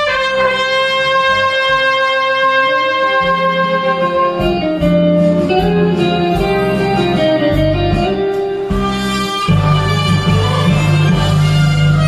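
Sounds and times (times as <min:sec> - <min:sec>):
bass and drums: 0:00.0 - 0:12.0
guitar melody: 0:00.0 - 0:12.0
held cornet note: 0:00.0 - 0:12.0.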